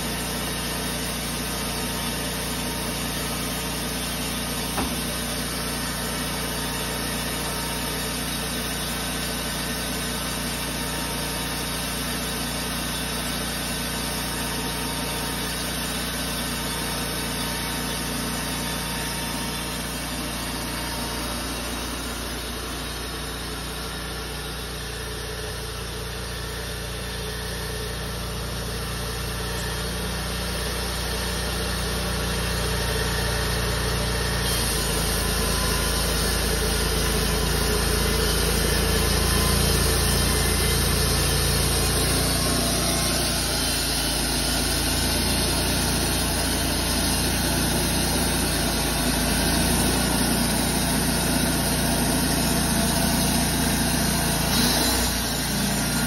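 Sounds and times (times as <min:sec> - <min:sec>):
band blade sawing log: 0:00.0 - 0:24.0, 0:34.2 - 0:56.0
sawmill engine running: 0:00.0 - 0:56.0.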